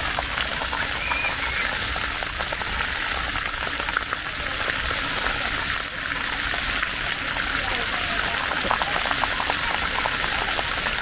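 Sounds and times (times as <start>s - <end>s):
fountain splashing into pool: 0.0s - 11.0s.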